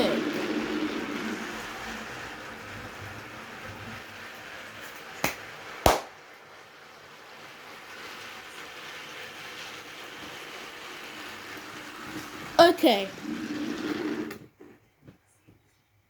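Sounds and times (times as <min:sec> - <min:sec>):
toy train whirring and rattling: 0:00.0 - 0:05.8, 0:06.4 - 0:14.5.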